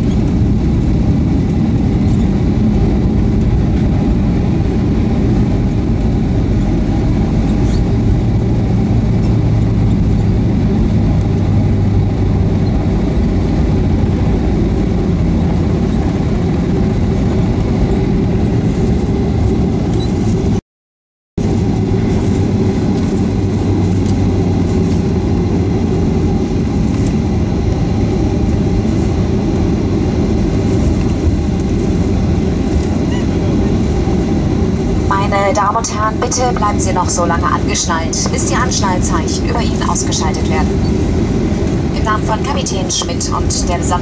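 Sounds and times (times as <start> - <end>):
jet engines and wheels rumbling: 0.0 - 20.6, 21.4 - 44.0.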